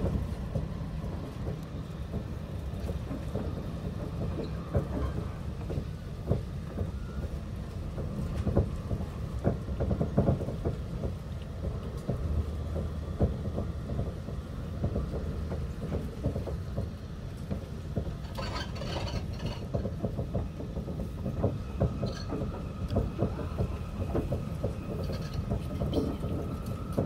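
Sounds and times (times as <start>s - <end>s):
heavy rain on vehicle roof: 0.0s - 18.2s, 19.2s - 27.0s.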